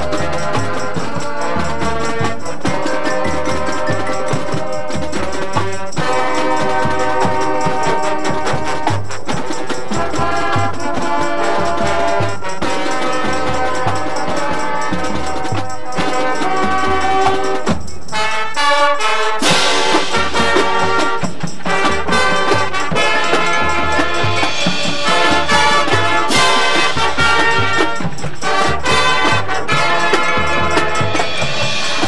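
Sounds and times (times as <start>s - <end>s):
marching band playing: 0.0s - 32.0s.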